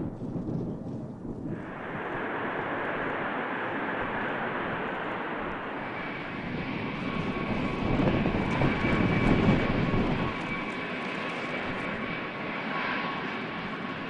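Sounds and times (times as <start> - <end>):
jet engines rumbling with whine: 0.0 - 14.0.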